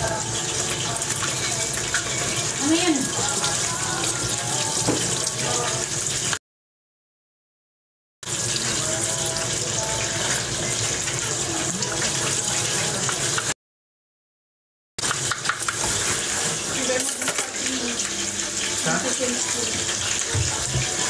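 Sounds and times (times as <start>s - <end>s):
tap water running into sink: 0.0s - 6.4s, 8.2s - 13.6s, 15.0s - 21.0s.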